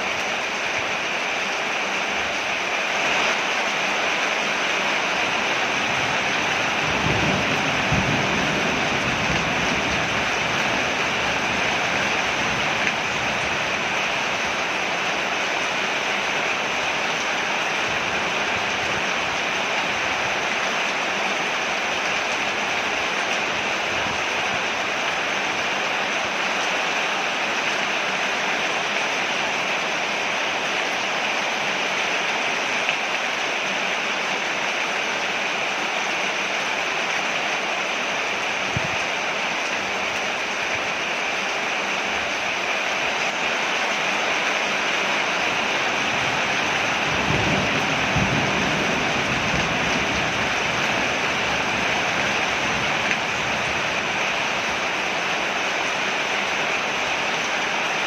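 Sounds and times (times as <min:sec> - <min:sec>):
heavy rain on porch: 0:00.0 - 0:58.0.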